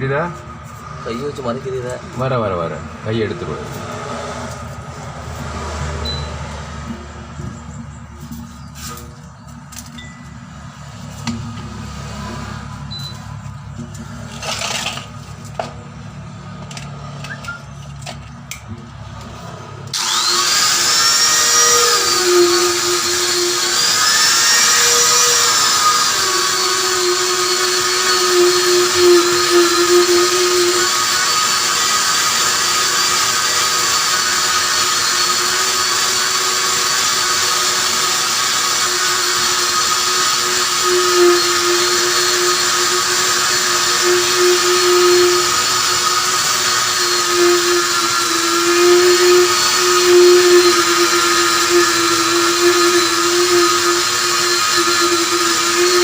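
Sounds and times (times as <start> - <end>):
rotary power tool buffing: 0.3 - 9.9, 10.7 - 17.8, 18.9 - 56.0.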